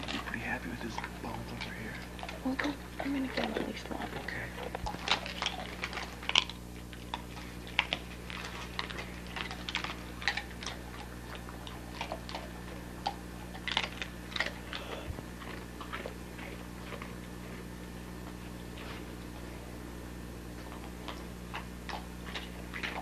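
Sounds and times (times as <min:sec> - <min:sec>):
dogs chewing bones: 0:00.0 - 0:23.0
steady low hum: 0:00.0 - 0:23.0.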